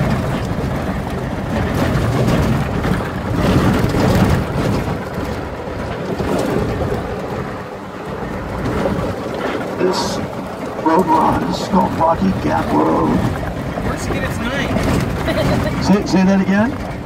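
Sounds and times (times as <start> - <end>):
vehicle engine and tyre noise: 0.0 - 17.0
wind on open vehicle: 0.0 - 17.0.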